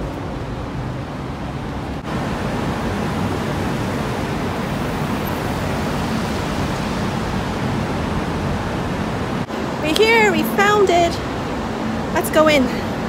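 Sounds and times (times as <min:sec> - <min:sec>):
street noise hiss: 0:00.0 - 0:13.0.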